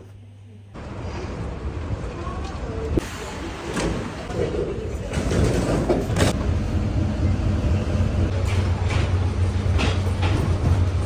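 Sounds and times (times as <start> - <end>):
train hum inside carriage: 0.0 - 11.0.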